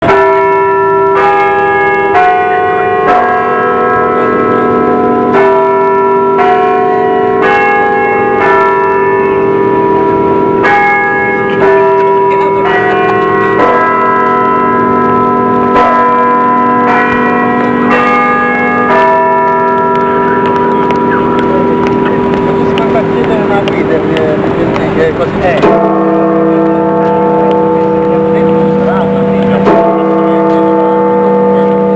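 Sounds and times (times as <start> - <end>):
old church bell ringing: 0.0 - 31.9.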